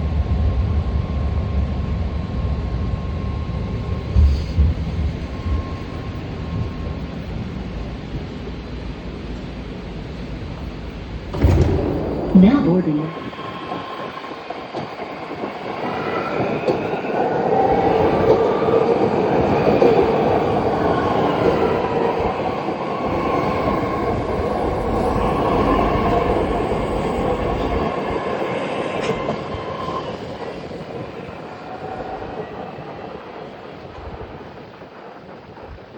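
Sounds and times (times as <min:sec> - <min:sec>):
electric whine of train: 0:00.0 - 0:35.9
train wheels rumbling on rails: 0:00.0 - 0:35.9.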